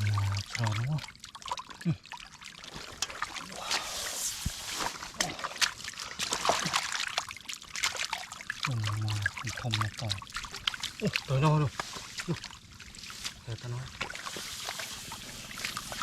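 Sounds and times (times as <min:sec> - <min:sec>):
pouring water splash: 0:00.0 - 0:16.0
water splashed by hand: 0:00.0 - 0:16.0.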